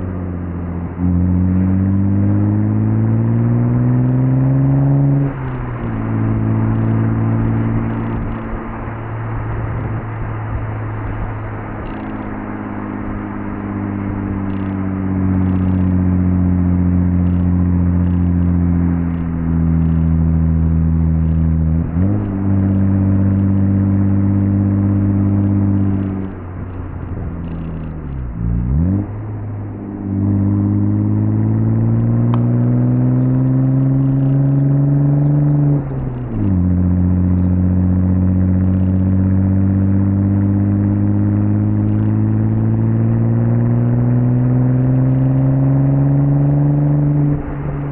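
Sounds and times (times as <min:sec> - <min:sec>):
car engine under load: 0:00.0 - 0:47.9.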